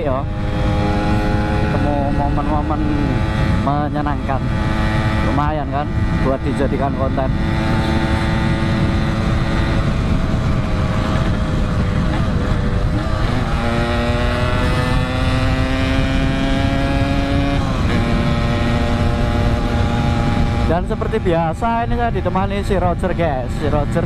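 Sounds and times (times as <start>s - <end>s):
two-stroke motorcycle engine: 0.0s - 24.0s.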